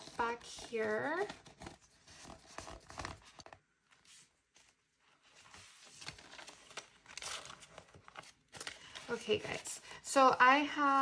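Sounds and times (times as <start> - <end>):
paper banknotes rustling: 0.0 - 9.6.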